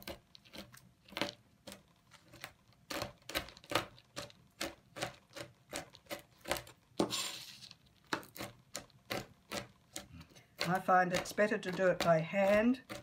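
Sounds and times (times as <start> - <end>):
knife chopping nuts on board: 0.0 - 13.0.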